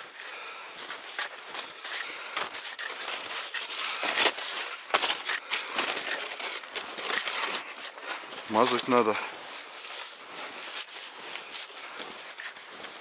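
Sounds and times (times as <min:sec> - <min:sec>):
skis crunching through snow: 0:00.0 - 0:13.0.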